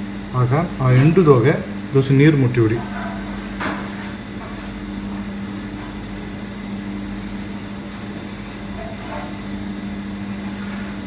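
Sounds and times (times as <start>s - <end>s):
kitchen machinery humming: 0.0s - 11.0s.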